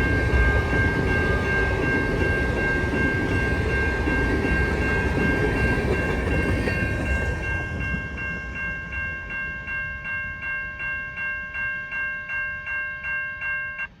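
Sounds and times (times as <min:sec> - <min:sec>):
freight train rumble: 0:00.0 - 0:12.3
level crossing warning bell: 0:00.0 - 0:14.0.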